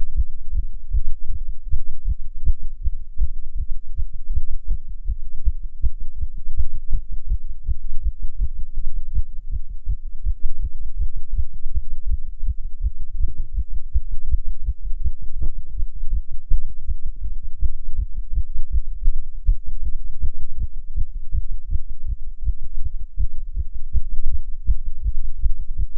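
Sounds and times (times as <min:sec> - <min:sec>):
fast heartbeat thumps: 0:00.2 - 0:25.9.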